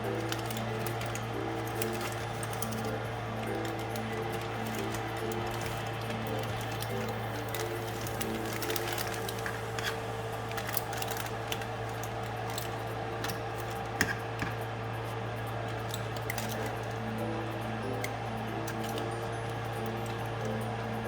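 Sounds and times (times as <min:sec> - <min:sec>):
utensils and foil clicking and scraping: 0:00.0 - 0:21.0.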